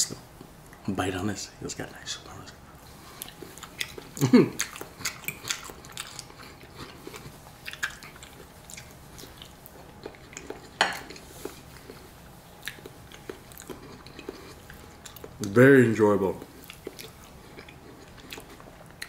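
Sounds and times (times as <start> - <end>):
chewing soft food: 2.2 - 15.6, 16.2 - 19.0.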